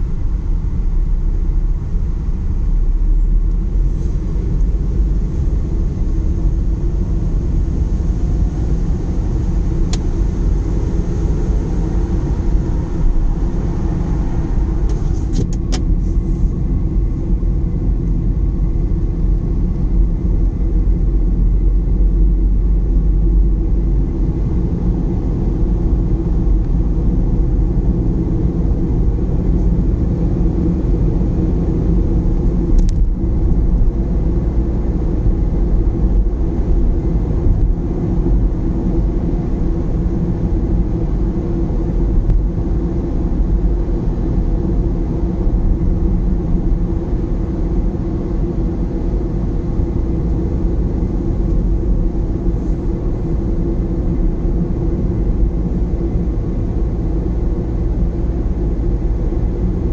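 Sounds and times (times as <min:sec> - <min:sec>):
road and engine noise in car: 0:00.0 - 0:59.9.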